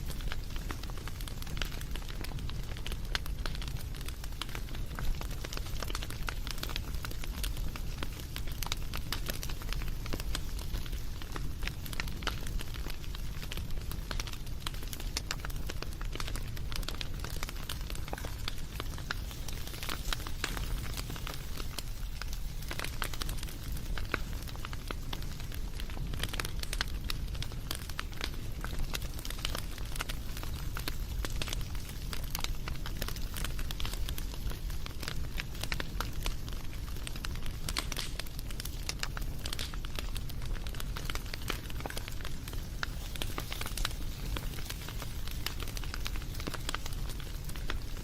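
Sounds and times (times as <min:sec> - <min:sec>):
fire rumbling: 0:00.0 - 0:48.0
wood fire crackling: 0:00.0 - 0:48.0.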